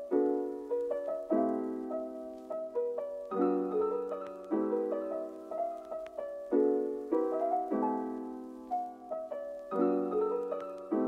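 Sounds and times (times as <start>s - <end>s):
gentle piano tune: 0.0s - 11.0s.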